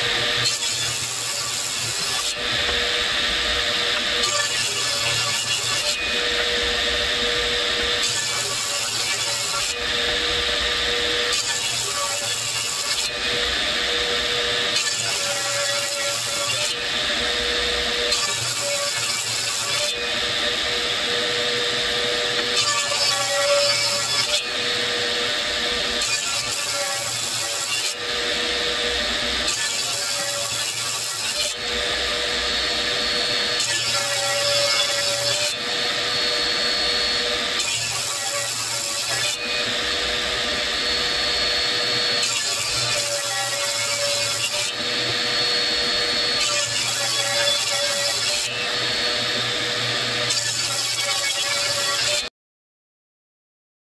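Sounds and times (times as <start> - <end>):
table saw cutting wood: 0.0 - 52.3.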